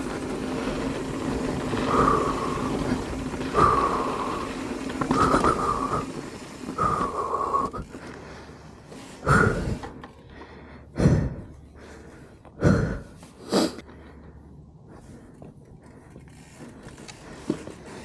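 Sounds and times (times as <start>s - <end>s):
bike whine: 0.0s - 18.0s
person breathing out hard: 1.8s - 18.0s.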